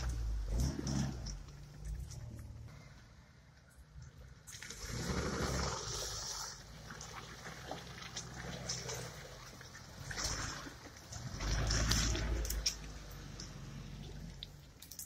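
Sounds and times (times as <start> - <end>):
off-road vehicle engine rumbling: 0.0 - 15.0.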